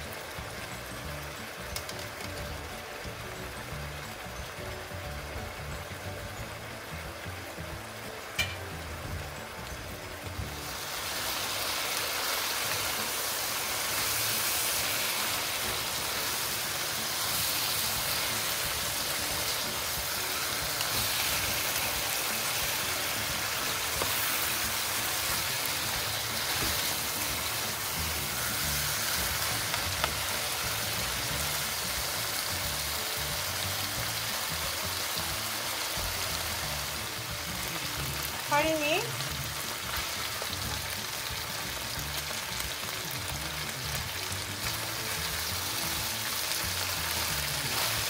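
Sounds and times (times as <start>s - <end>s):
meat sizzling in hot oil: 0.0s - 48.0s.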